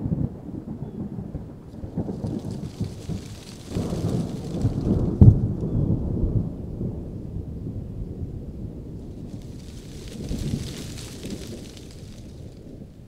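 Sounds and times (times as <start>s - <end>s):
low rumble with crackle: 0.0s - 13.0s.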